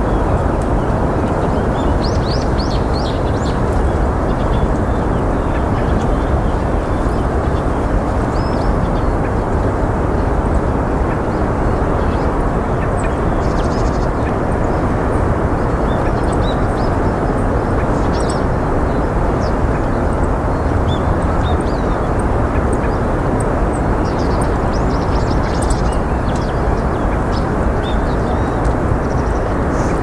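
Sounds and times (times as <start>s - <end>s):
loud steady outdoor rumble: 0.0s - 30.0s.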